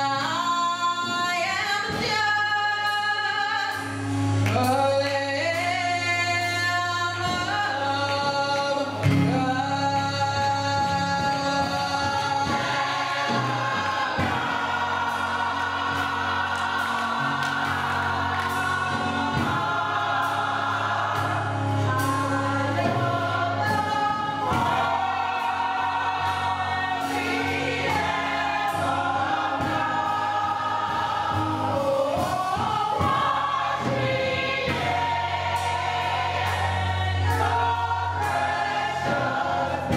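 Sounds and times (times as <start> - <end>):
gospel choir singing: 0.0 - 39.9
musical accompaniment: 0.0 - 39.9.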